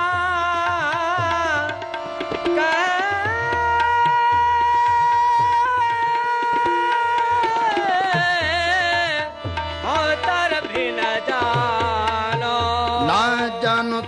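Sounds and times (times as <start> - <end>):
harmonium notes: 0.0 - 14.0
tabla strokes: 0.0 - 14.0.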